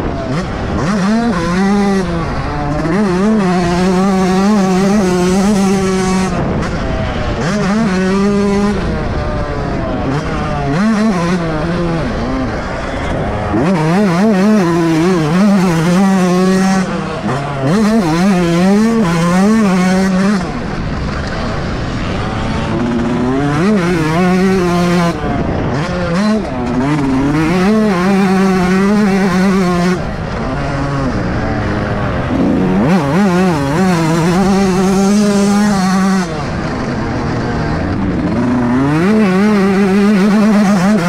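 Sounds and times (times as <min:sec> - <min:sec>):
motocross engine revving: 0:00.0 - 0:41.0.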